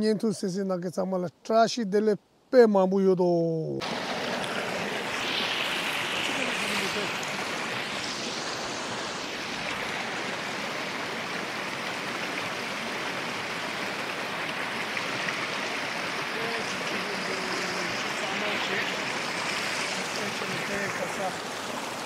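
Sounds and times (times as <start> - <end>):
creek rushing over stones: 3.8 - 22.0.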